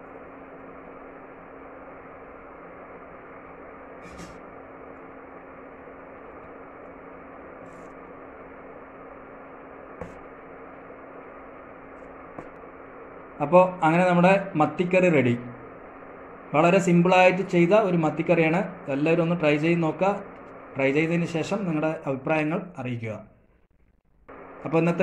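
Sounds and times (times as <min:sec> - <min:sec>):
steady hiss: 0:00.0 - 0:22.6
low hum: 0:00.0 - 0:25.0.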